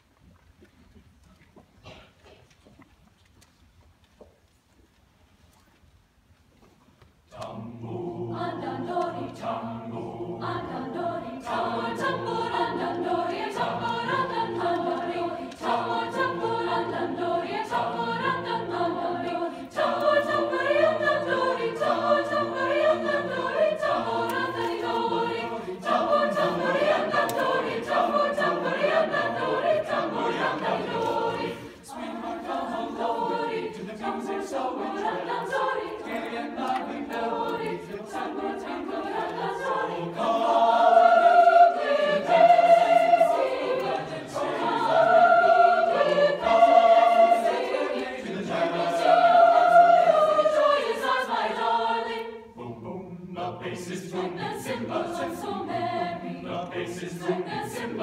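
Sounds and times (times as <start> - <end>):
mixed choir singing: 7.3 - 58.0.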